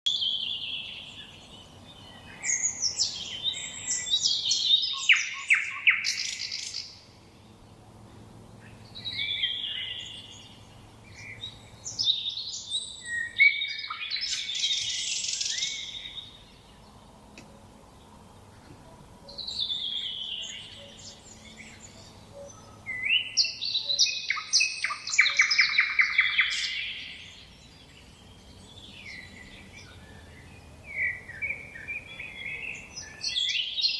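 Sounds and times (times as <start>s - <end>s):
nightingale singing: 0.1s - 7.1s, 8.6s - 33.9s.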